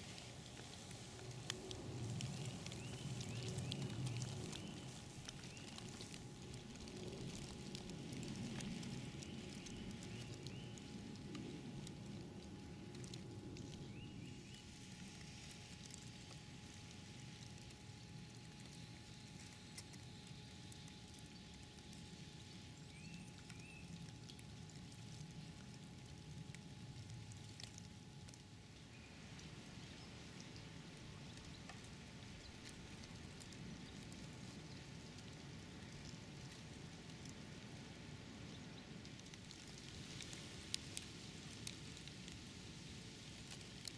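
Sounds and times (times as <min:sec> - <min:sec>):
faint steady hum: 0:00.0 - 0:43.9
small ticks: 0:00.0 - 0:43.9.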